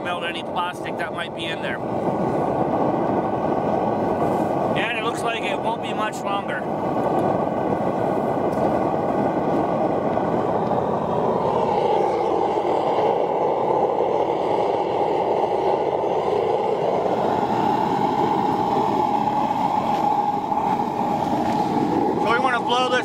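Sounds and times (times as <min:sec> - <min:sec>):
gas burner rushing: 0:00.0 - 0:23.0.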